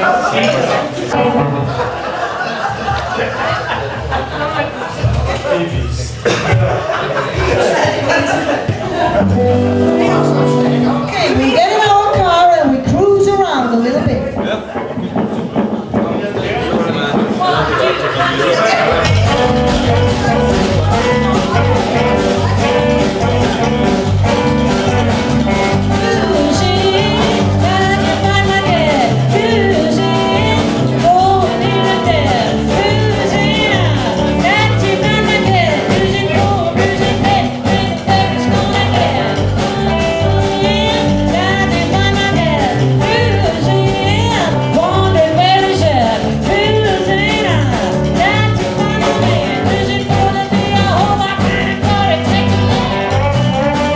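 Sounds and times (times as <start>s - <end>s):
live rock and roll band: 0.0s - 53.9s.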